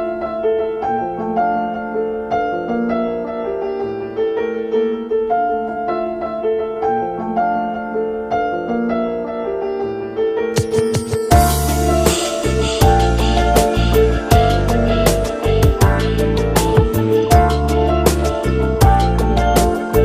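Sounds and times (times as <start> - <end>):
piano playing slow melody: 0.0 - 20.0.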